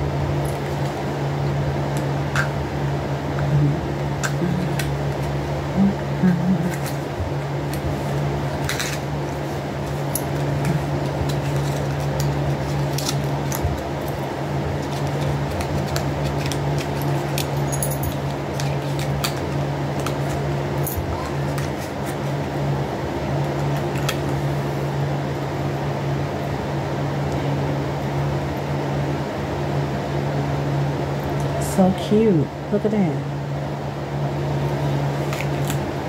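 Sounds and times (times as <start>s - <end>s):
electric fan humming: 0.0s - 36.0s.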